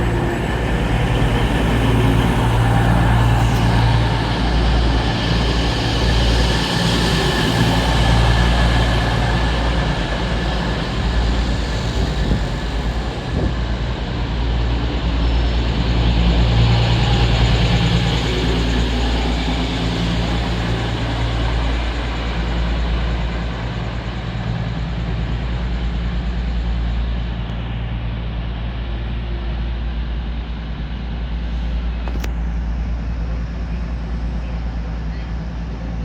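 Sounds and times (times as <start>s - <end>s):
train diesel engines humming: 0.0s - 36.0s.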